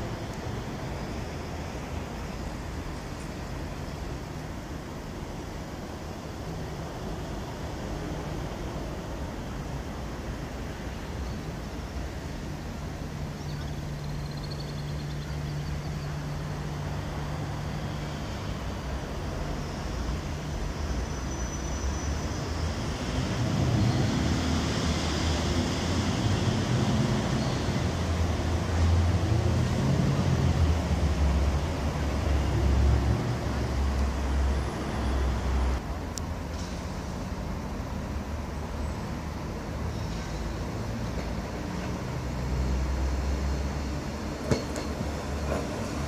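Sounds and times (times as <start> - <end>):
train rumbling past: 0.0 - 46.0.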